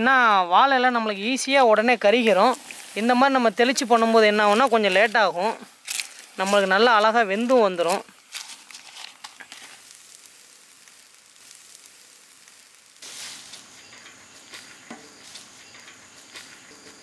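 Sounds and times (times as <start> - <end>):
insects chirping: 0.0 - 17.0
fish parcels sizzling on grill: 0.9 - 17.0.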